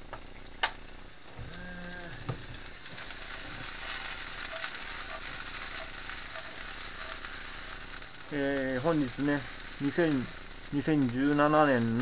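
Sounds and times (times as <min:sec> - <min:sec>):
bean sprouts sizzling in pan: 0:00.0 - 0:12.0.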